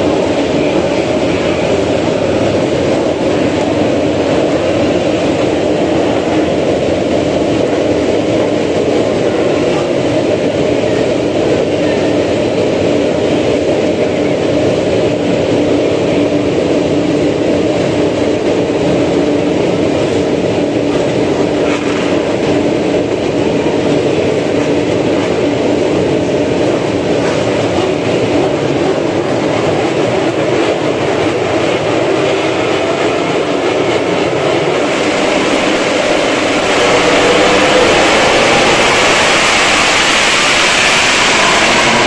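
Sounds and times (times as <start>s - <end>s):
constant hum: 0.0s - 42.0s
race bike engines running: 0.0s - 42.0s.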